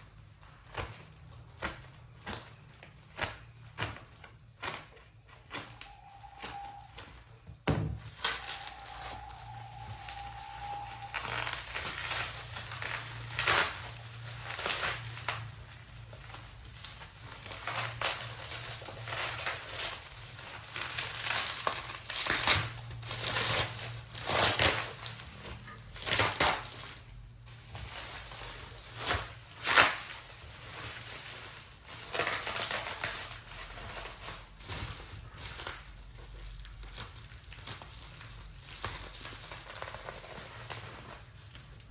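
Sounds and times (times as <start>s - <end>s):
packaging crinkling and rustling: 0.0s - 41.9s.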